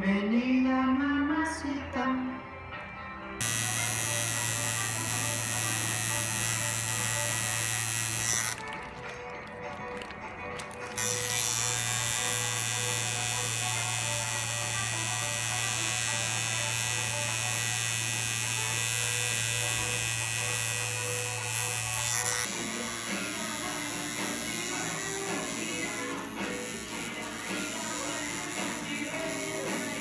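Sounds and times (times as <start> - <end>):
tattoo machine buzzing: 3.4 - 8.9, 10.0 - 30.0.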